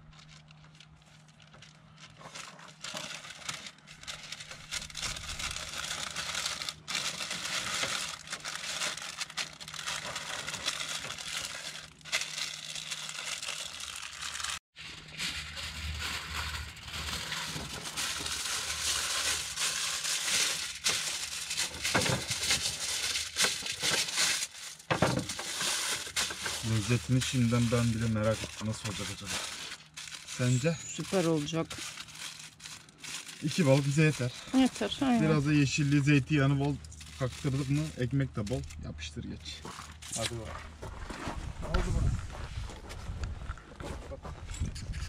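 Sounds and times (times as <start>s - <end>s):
foil and paper crinkling: 0.0s - 38.8s, 39.4s - 41.6s.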